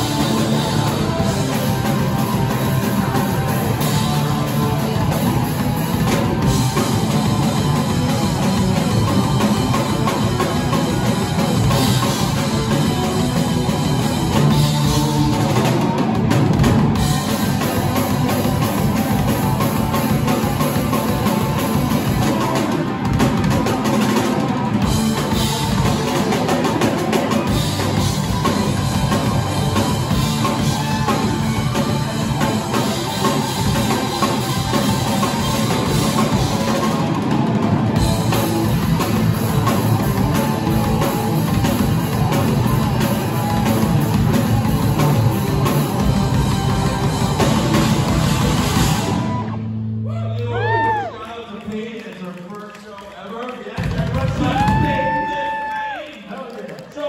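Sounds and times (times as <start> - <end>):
drum kit: 0.0 - 51.1, 53.8 - 55.9
electric guitars: 0.0 - 51.1.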